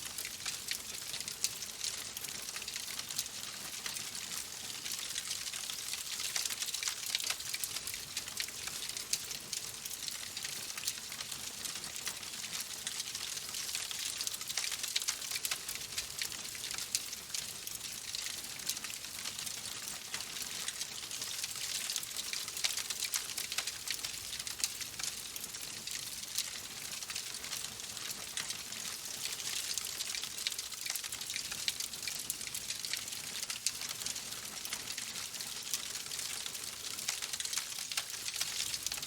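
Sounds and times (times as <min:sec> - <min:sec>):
fire crackling in fireplace: 0:00.1 - 0:39.0.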